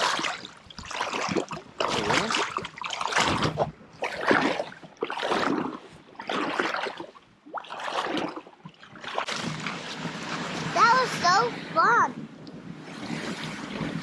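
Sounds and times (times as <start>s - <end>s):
paddle strokes swishing water: 0.0s - 14.0s.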